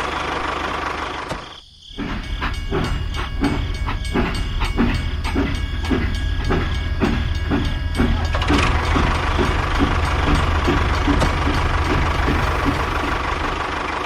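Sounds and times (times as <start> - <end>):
small machine chugging: 0.0 - 14.0.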